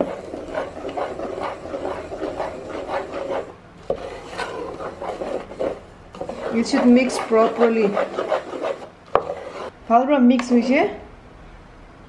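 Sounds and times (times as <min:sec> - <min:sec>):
wooden spatula scraping metal bowl: 0:00.0 - 0:09.8.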